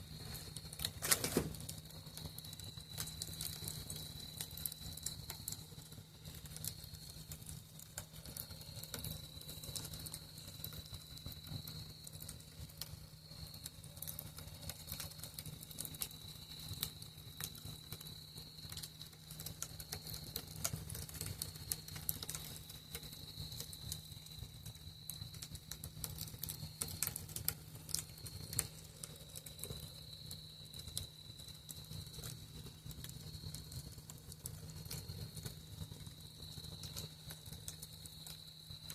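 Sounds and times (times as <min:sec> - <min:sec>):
campfire crackling and popping: 0:00.0 - 0:38.9
crickets trilling: 0:00.0 - 0:38.9.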